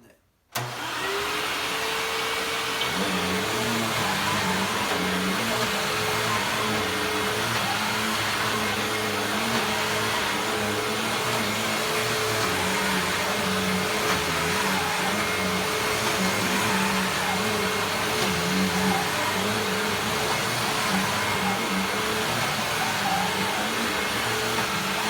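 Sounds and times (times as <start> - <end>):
vacuum cleaner motor whine: 0.6 - 25.0.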